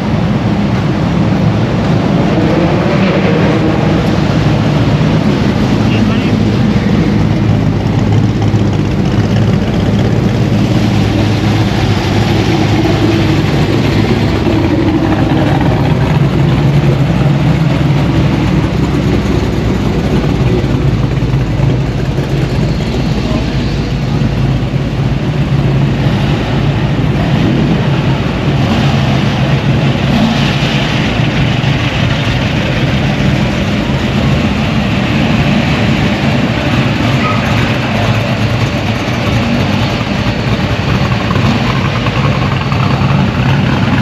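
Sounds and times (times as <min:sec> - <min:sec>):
car engines idling: 0:00.0 - 0:44.0.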